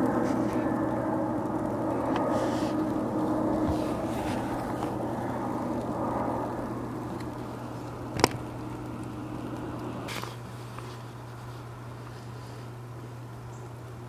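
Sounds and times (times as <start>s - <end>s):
distant road traffic rumble: 0.0s - 14.0s.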